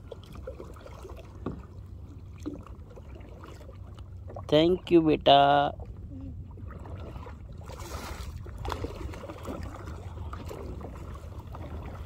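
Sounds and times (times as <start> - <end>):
small splashes: 0.0 - 4.5, 6.2 - 12.0
water lapping against kayak hull: 0.0 - 12.0.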